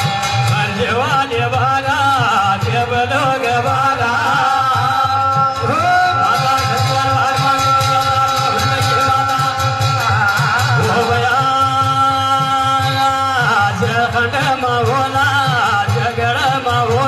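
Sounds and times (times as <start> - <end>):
hand drum beat: 0.0 - 17.0.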